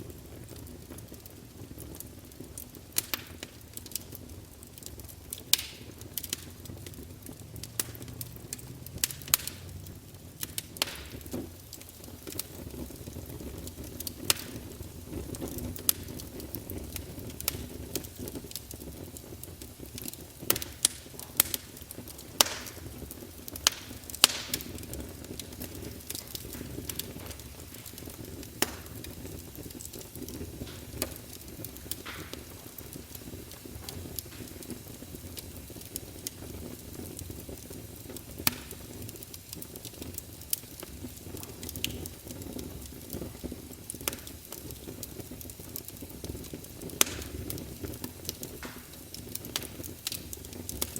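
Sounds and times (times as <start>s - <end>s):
logs crackling and popping: 0.0s - 50.9s
low rush of flames: 0.0s - 50.9s.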